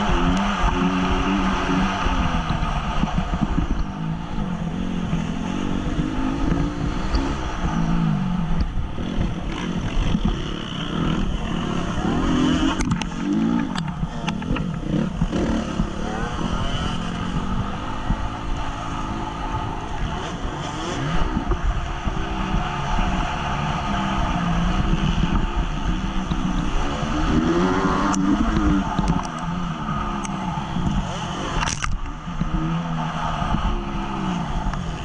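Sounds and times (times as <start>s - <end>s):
motorbike engine revving: 0.0s - 35.0s.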